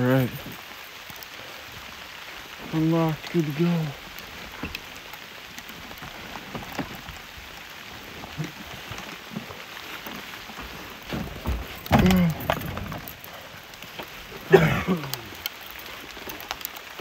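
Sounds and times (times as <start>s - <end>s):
rain and hail: 0.0s - 17.0s.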